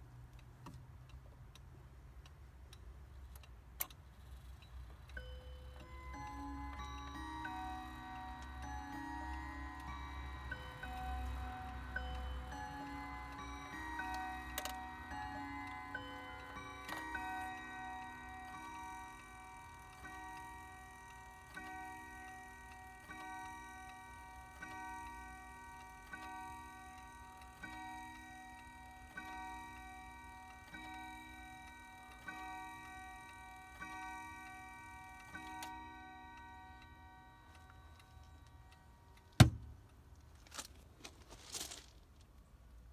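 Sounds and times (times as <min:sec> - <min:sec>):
wall clock chiming: 0:05.1 - 0:39.5.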